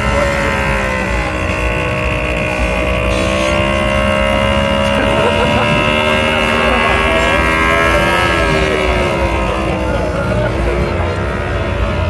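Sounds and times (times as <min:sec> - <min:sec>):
moped engine running: 0:00.0 - 0:12.0.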